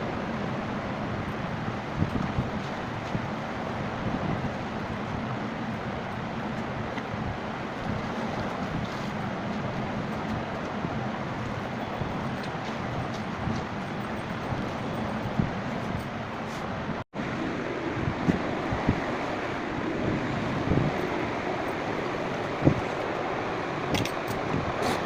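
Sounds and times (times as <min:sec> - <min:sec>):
washing machine running: 0:00.0 - 0:25.0.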